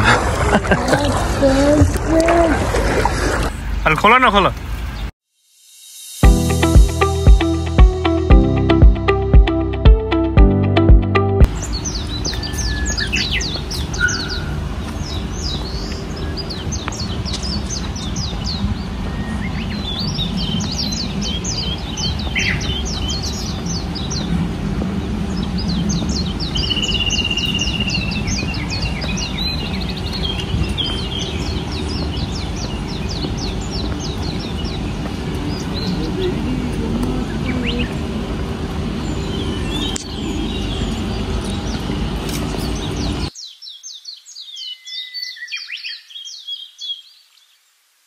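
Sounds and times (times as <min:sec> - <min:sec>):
songbirds chirping: 0:03.3 - 0:05.2, 0:06.2 - 0:47.9.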